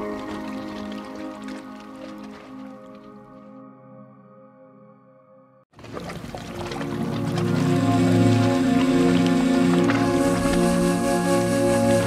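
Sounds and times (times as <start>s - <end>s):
music track: 0.0s - 5.6s, 6.4s - 12.0s
sustained background music: 0.0s - 12.0s.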